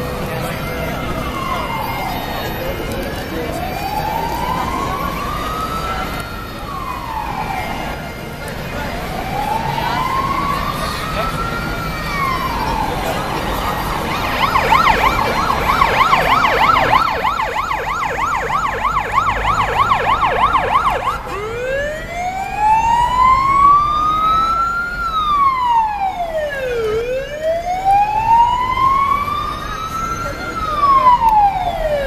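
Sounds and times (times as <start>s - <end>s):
police siren yelp and wail: 0.0s - 32.0s.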